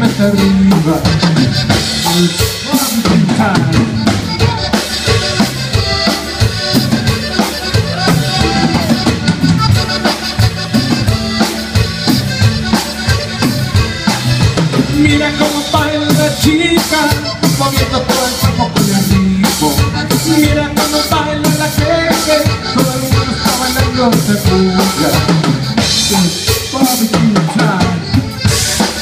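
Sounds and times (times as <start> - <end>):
accordion melody: 0.0 - 29.0
drum kit beat: 0.0 - 29.0
electric bass: 0.0 - 29.0.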